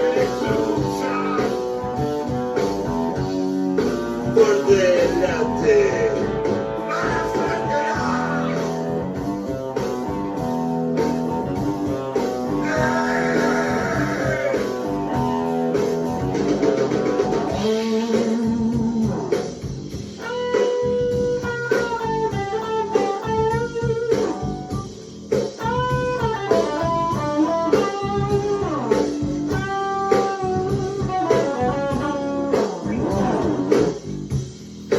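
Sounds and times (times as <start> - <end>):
brighter guitar layer: 0.0 - 34.9
low musical backing: 0.0 - 34.9
plucked and strummed guitar: 0.0 - 34.9.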